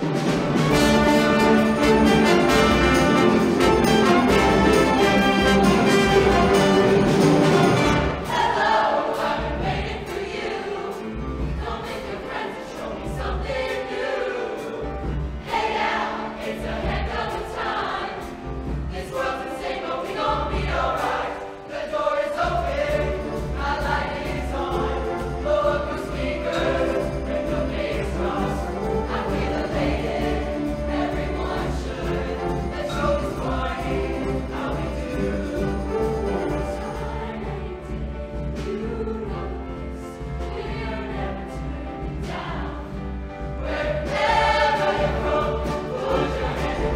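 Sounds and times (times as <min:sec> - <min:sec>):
band accompaniment: 0:00.0 - 0:46.9
choir singing: 0:00.0 - 0:46.9.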